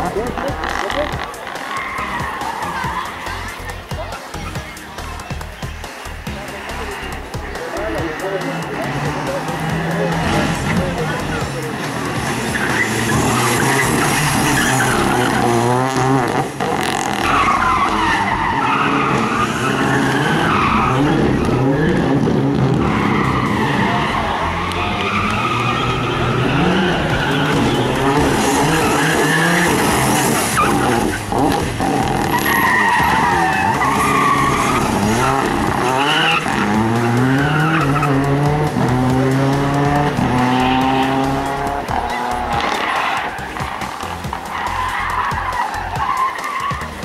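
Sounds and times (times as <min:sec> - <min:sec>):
rally car engine revving: 0:00.0 - 0:47.0.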